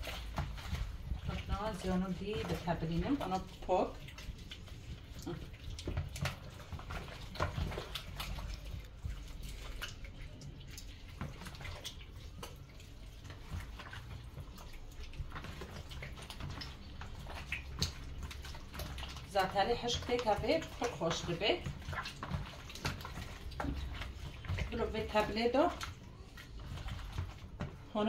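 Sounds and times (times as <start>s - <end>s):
wet squelches of kneading meat: 0.0s - 28.0s.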